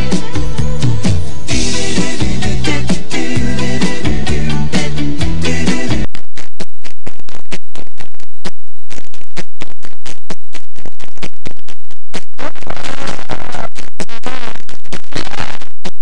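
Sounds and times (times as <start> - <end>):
noisy electronic music: 0.0 - 16.0.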